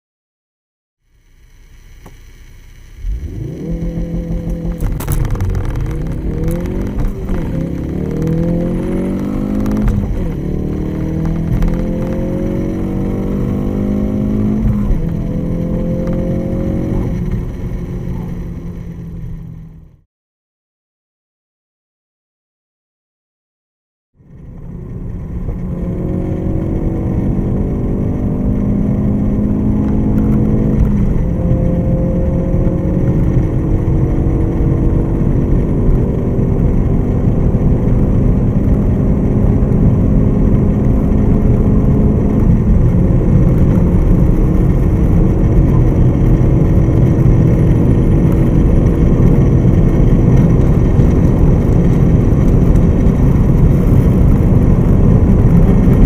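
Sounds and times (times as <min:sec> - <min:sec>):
wind and road noise: 0:01.2 - 0:20.0, 0:24.2 - 0:56.0
car engine accelerating hard: 0:02.8 - 0:20.0, 0:24.2 - 0:56.0.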